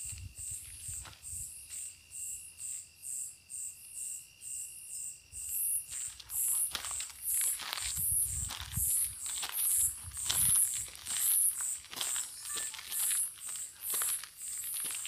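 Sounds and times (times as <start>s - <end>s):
insect continuous trill: 0.0s - 15.0s
insect high chirp: 0.0s - 15.0s.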